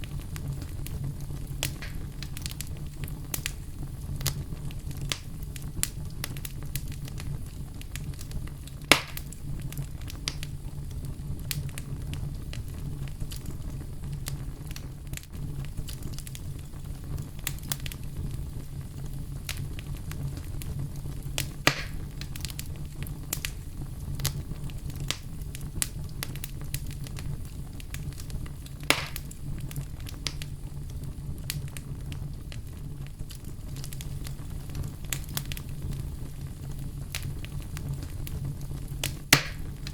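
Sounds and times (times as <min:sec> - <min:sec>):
firewood burning and crackling: 0:00.0 - 0:39.9
sharp fire pops: 0:00.0 - 0:39.9.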